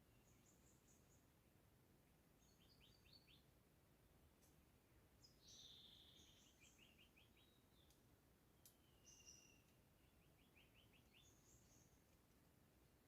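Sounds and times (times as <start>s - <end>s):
faint songbird singing: 0.0s - 3.6s, 4.2s - 13.0s.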